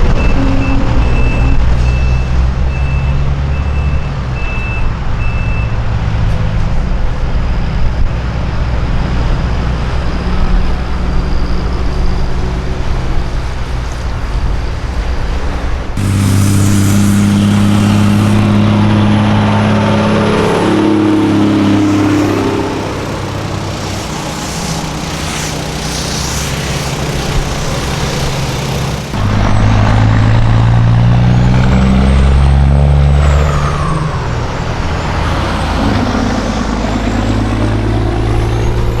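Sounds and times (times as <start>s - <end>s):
diesel truck engines: 0.0s - 39.0s.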